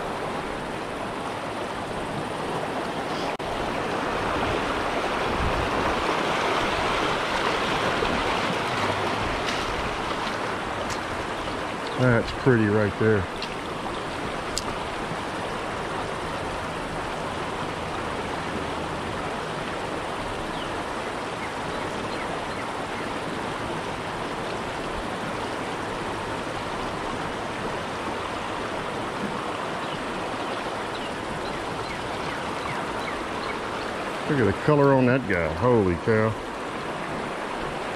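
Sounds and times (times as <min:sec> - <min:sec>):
creek water rushing over rocks: 0:00.0 - 0:37.9.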